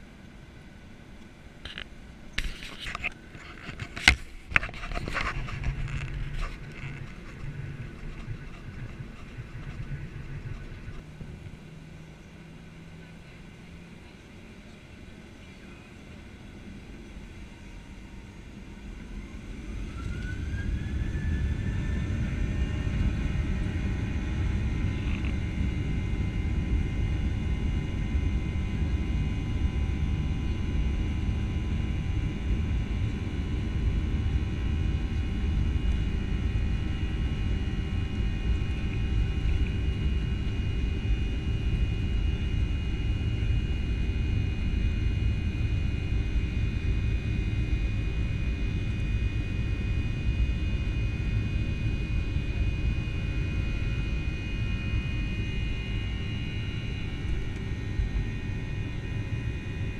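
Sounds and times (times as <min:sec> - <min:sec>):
jet engine high whine: 0:00.0 - 0:59.9
jet engine low rumble: 0:00.0 - 0:59.9.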